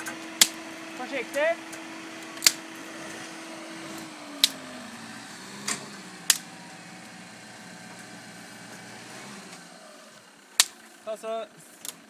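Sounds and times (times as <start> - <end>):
winch humming: 0.0 - 10.4.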